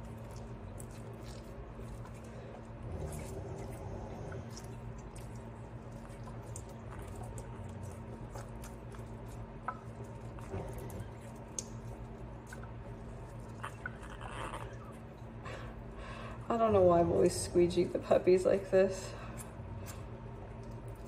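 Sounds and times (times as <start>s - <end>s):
soft wet squishing: 0.0s - 17.3s, 19.1s - 21.0s
steady low hum: 0.0s - 21.0s.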